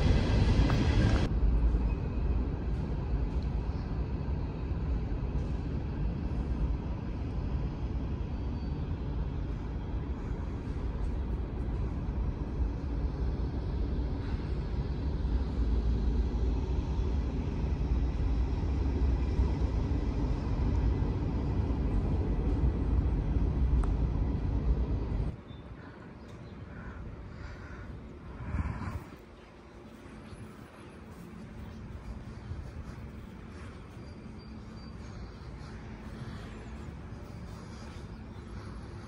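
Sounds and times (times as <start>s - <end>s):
low rumbling workshop hall noise: 0.0s - 39.0s.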